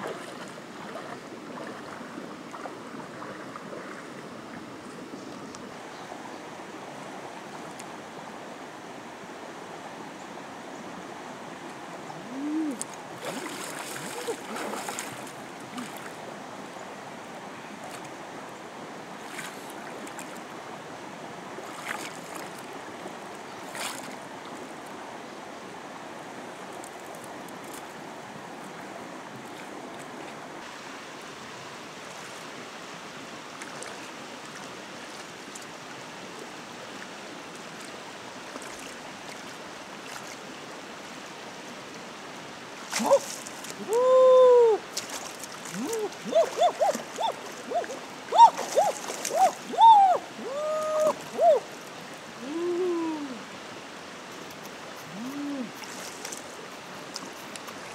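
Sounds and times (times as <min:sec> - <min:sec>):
river water flowing: 0:00.0 - 0:57.9.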